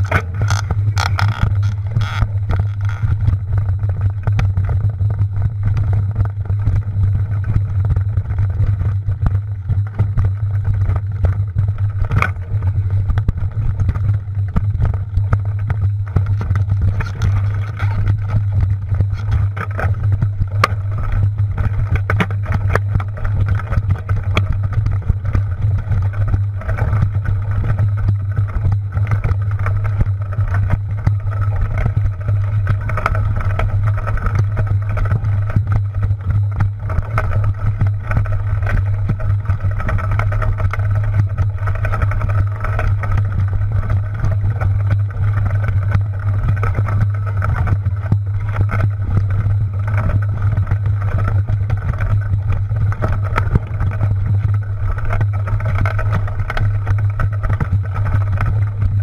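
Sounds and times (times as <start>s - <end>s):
mountain bike on rough trail: 0.0s - 59.0s.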